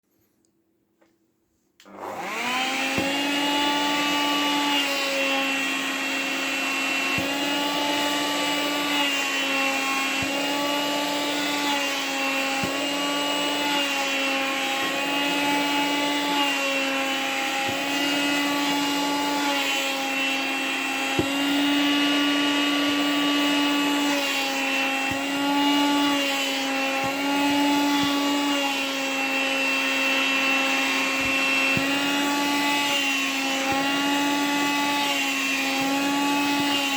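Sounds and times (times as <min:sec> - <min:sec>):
vacuum cleaner whining: 0:01.8 - 0:36.9.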